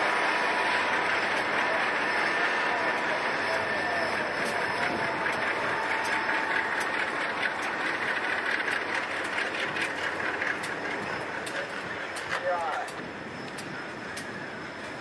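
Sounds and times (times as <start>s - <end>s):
faint steady whine: 0.0s - 15.0s
freight train rolling rumble: 0.0s - 15.0s.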